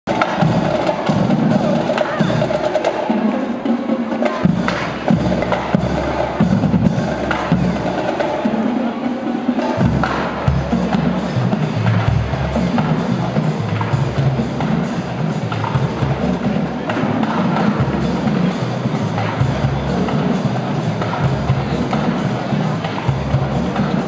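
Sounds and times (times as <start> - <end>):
snare and bass drums: 0.1 - 24.0.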